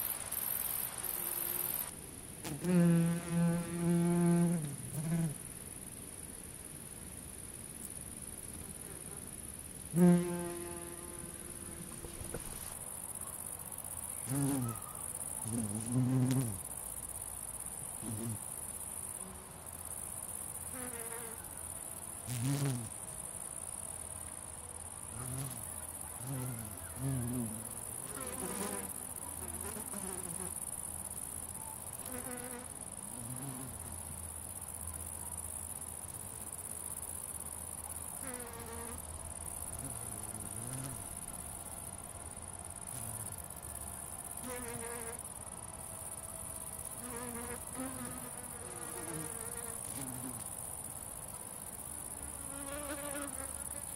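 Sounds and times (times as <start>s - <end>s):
grasshoppers stridulating: 0.0s - 5.3s, 10.0s - 53.9s
insects buzzing past: 0.0s - 53.9s.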